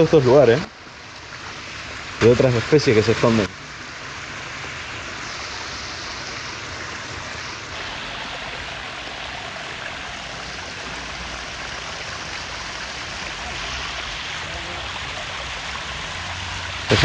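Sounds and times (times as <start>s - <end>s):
water rushing over a drop: 0.0s - 17.0s.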